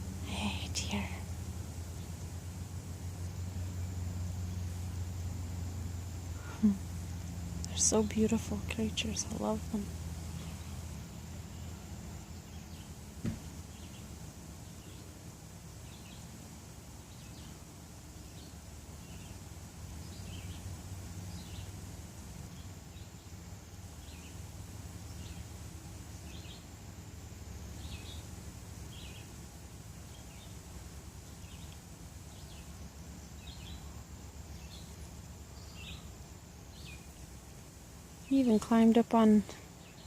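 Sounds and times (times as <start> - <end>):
low steady rumble: 0.0 - 40.0.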